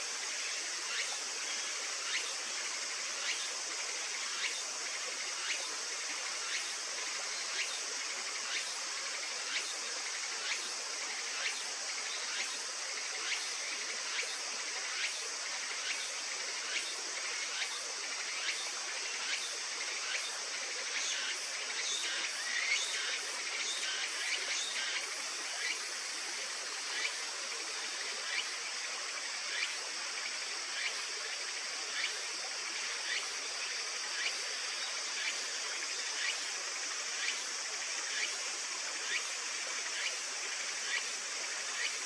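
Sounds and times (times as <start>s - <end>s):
insect chirping: 0.0s - 42.0s
insect chorus shrilling: 0.0s - 42.0s.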